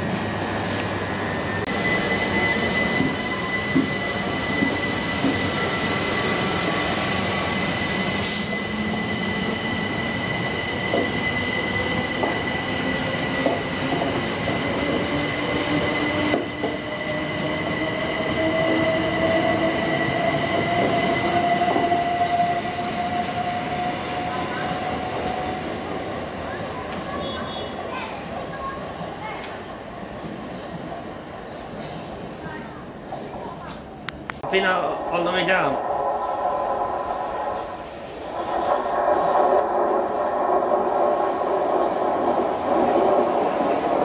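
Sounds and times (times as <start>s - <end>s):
electric train whine: 0.0s - 27.6s, 34.4s - 44.0s.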